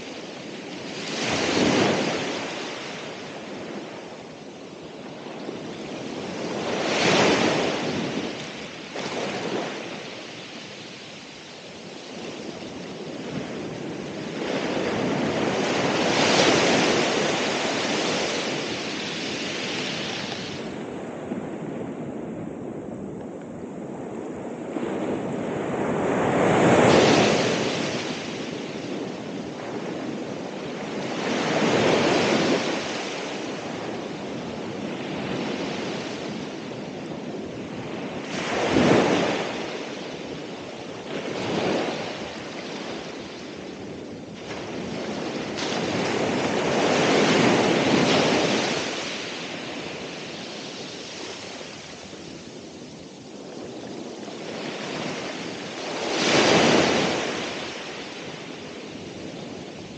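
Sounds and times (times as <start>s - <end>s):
waves breaking and washing in: 0.0s - 59.9s.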